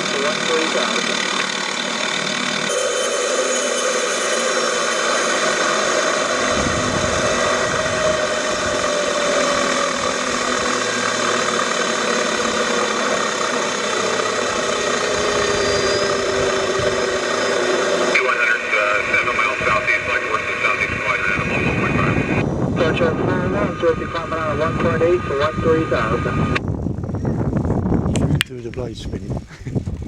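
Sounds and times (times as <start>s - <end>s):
model helicopter engine drone: 0.0s - 29.6s
deep rumble: 5.4s - 30.0s.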